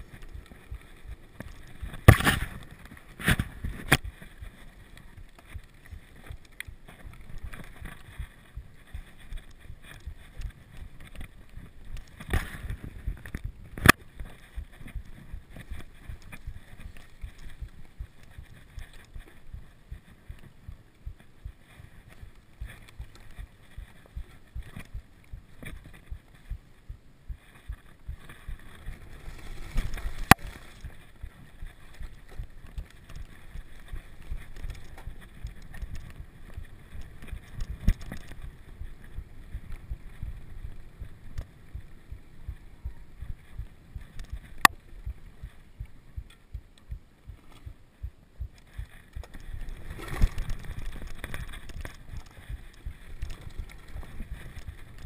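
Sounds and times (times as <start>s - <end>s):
bike tyres rumbling on dirt: 0.0s - 45.8s, 47.3s - 55.0s.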